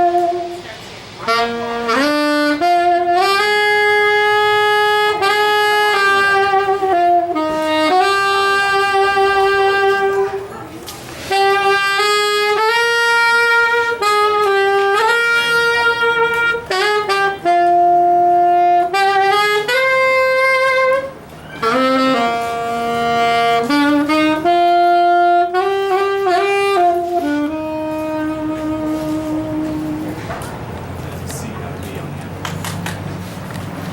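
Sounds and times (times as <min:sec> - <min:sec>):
solo wind instrument melody: 0:00.0 - 0:30.4.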